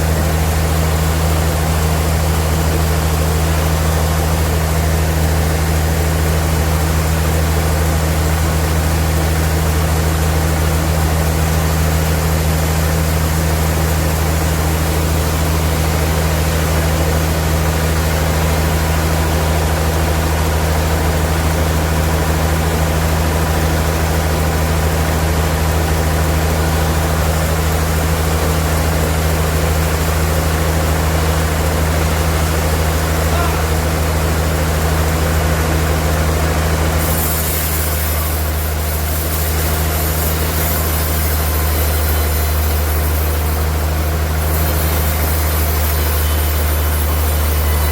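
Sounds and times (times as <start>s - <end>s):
sawmill machinery running: 0.0s - 47.9s.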